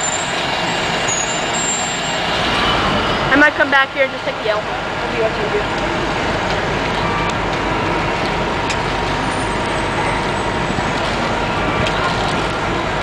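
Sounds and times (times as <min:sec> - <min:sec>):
bus engine driving past: 0:00.0 - 0:13.0
street traffic noise: 0:00.0 - 0:13.0.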